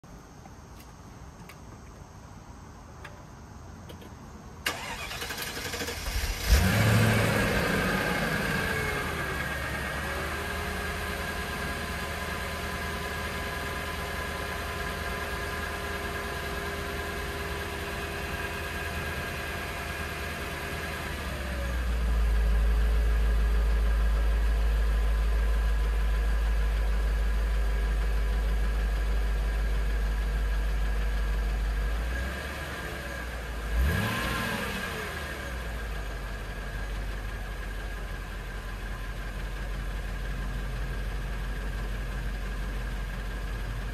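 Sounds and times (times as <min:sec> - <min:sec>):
car engine revving and idling: 0:04.7 - 0:43.9.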